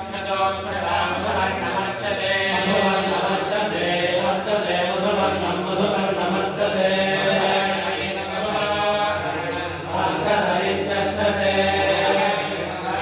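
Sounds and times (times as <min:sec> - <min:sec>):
group chanting in unison: 0:00.0 - 0:13.0.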